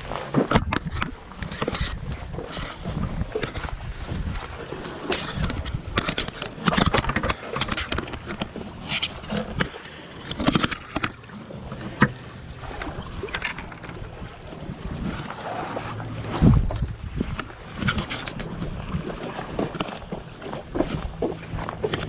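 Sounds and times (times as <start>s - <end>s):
wind on microphone: 0.0s - 9.8s, 12.0s - 22.0s
knocks and scrapes: 0.0s - 14.2s, 14.9s - 22.0s
sea water lapping on rocks: 0.0s - 22.0s.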